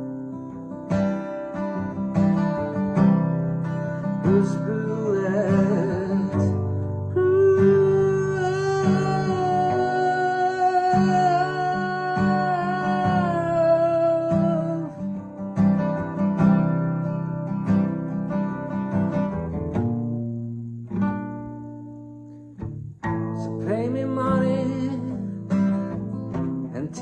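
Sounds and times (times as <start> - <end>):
acoustic guitar slow chords: 0.0 - 27.0.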